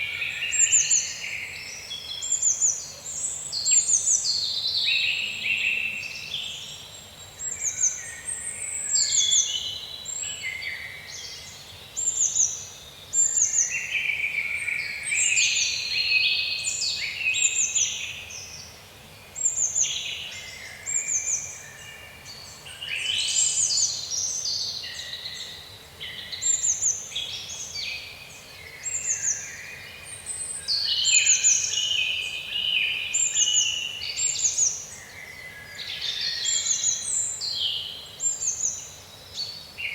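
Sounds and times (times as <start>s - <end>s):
faint steady background noise: 0.0s - 39.9s
songbirds singing: 0.0s - 39.9s.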